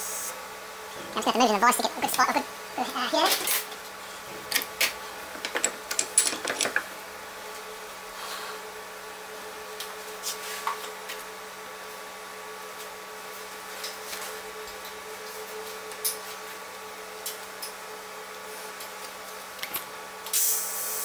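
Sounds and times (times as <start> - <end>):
steady machine hum: 0.0 - 20.3.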